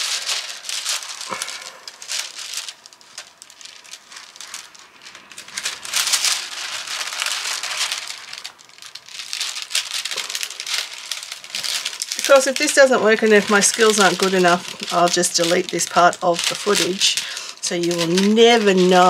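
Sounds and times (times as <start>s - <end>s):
plastic film crinkling: 0.0s - 19.0s.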